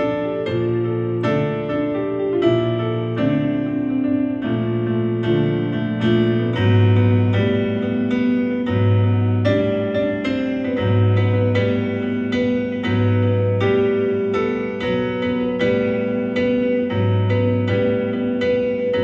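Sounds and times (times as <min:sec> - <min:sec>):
piano playing slow chords: 0:00.0 - 0:19.0.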